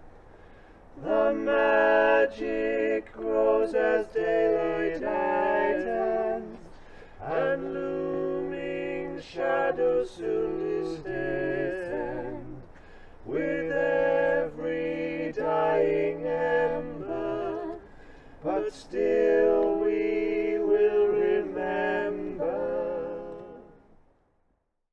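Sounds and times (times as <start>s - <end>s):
male and female voices singing lullaby: 1.0s - 23.8s.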